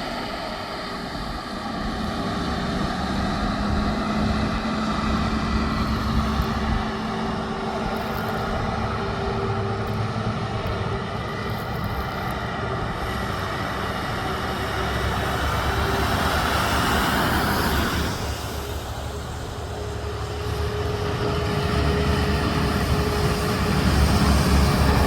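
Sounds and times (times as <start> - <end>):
truck engine and tyre noise: 0.0 - 25.0.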